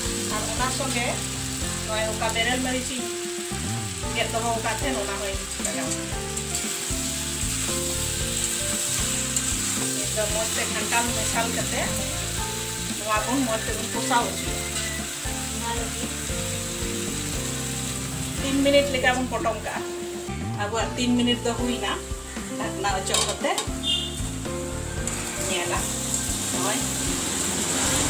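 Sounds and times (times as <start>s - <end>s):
curry sizzling in oil: 0.0s - 28.0s.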